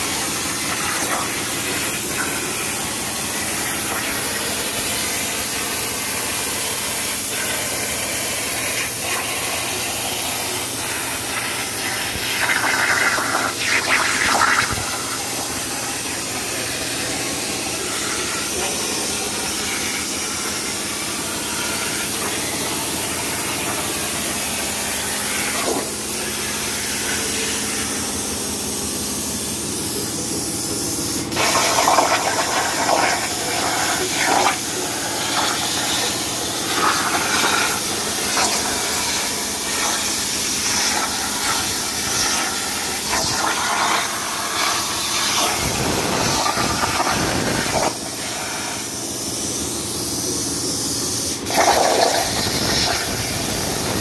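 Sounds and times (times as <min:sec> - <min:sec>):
plasma cutter hissing: 0:00.0 - 0:54.0.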